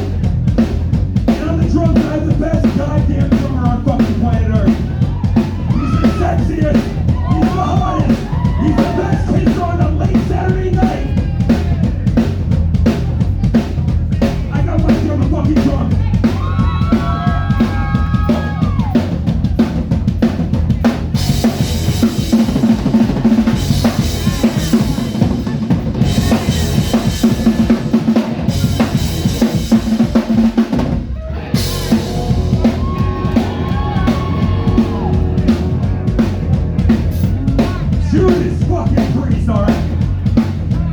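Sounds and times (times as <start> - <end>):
drum kit kick and snare: 0.0 - 40.9
live rock band: 0.0 - 40.9.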